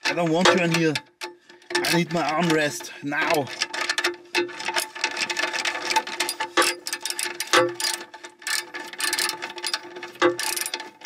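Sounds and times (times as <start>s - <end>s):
ratchet clicking: 0.0s - 11.0s.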